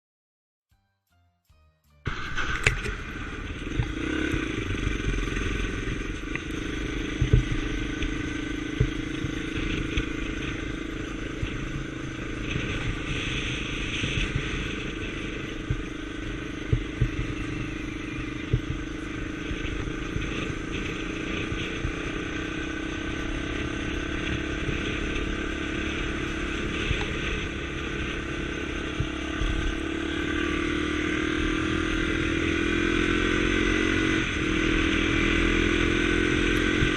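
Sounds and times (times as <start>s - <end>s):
motorcycle engine running: 2.0s - 36.9s
road noise: 2.0s - 36.9s.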